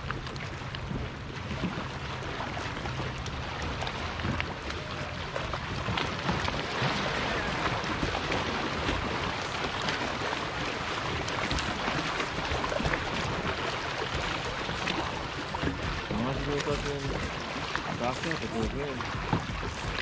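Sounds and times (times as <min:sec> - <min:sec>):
paddles dipping in water: 0:00.0 - 0:20.0
water lapping against rocks: 0:00.0 - 0:20.0.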